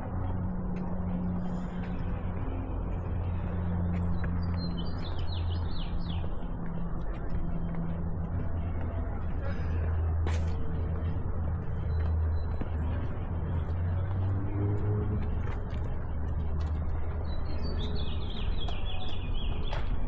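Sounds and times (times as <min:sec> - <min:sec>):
low city hum and rumble: 0:00.0 - 0:20.0.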